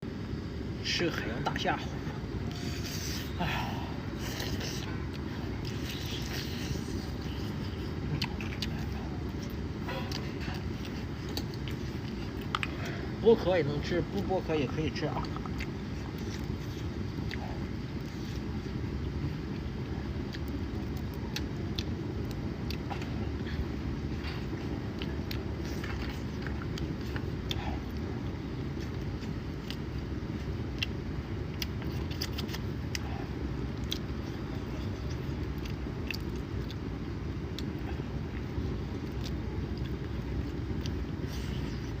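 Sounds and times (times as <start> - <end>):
chewing and shell cracking: 4.2 - 13.1, 13.8 - 23.6, 24.2 - 42.0.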